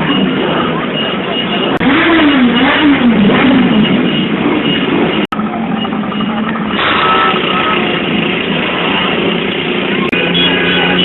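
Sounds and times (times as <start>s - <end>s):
loud background noise: 0.0s - 11.0s
motorcycle engine revving: 1.6s - 11.0s.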